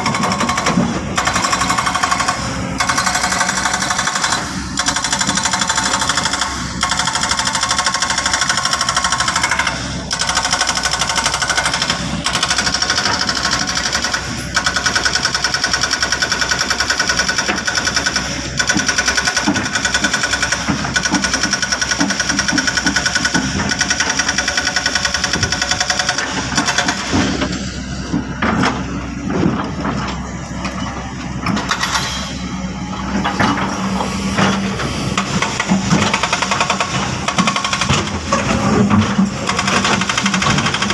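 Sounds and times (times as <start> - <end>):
diesel machinery clattering: 0.0 - 40.9.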